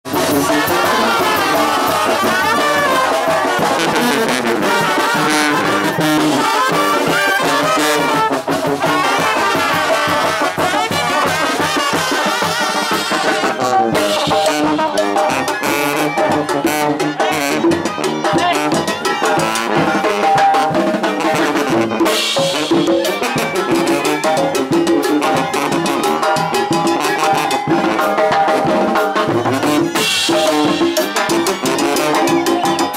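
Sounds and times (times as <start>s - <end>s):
brass band playing: 0.1s - 32.9s.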